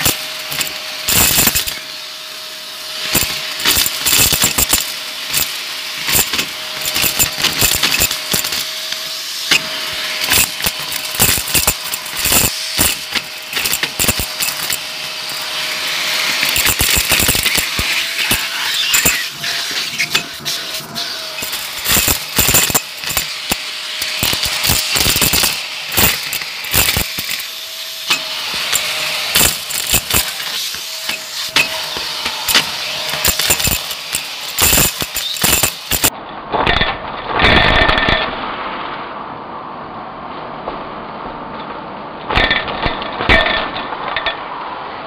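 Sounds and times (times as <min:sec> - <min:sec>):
debris clicking and rattling: 0:00.0 - 0:01.9, 0:03.0 - 0:38.4, 0:42.3 - 0:44.4
vacuum cleaner motor whine: 0:00.0 - 0:36.1.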